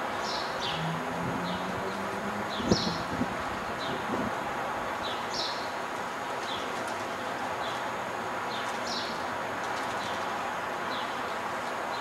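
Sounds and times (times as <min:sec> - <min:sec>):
distant city noise: 0:00.0 - 0:12.0.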